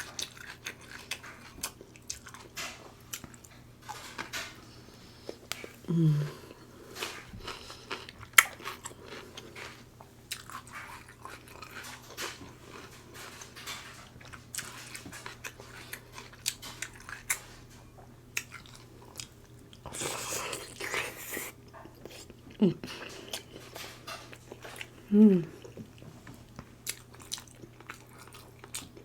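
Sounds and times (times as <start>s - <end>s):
person chewing and smacking: 0.0s - 29.0s.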